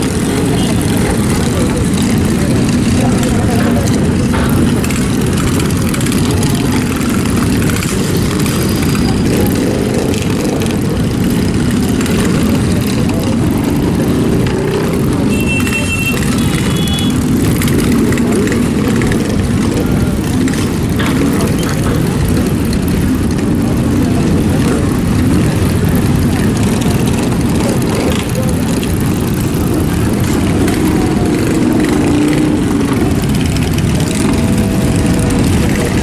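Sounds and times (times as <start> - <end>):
engines rumbling: 0.0 - 36.0.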